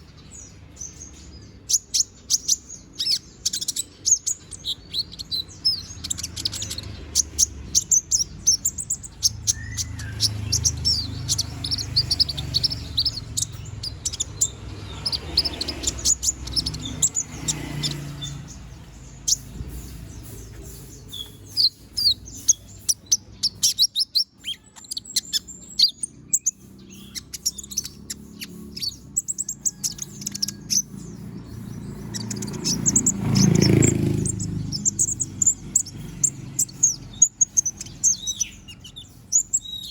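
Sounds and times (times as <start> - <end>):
sunbird high chirps and twitters: 0.0 - 39.9.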